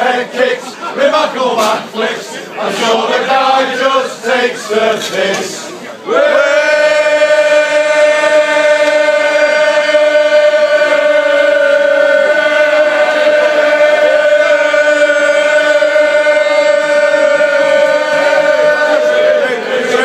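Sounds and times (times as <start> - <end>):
crowd singing a long held note: 0.0 - 20.0.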